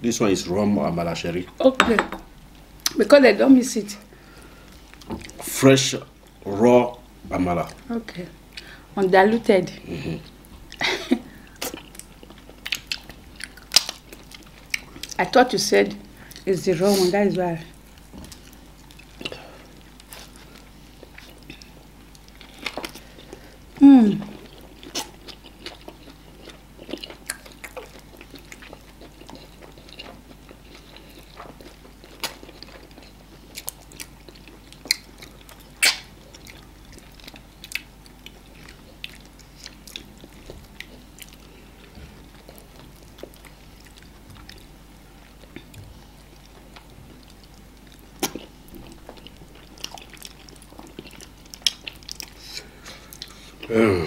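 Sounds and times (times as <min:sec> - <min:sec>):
people chewing food: 0:04.1 - 0:54.0.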